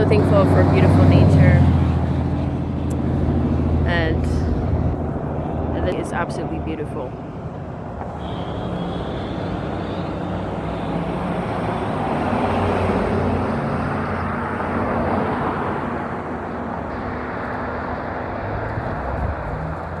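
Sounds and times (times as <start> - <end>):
road vehicle noise: 0.0 - 20.0.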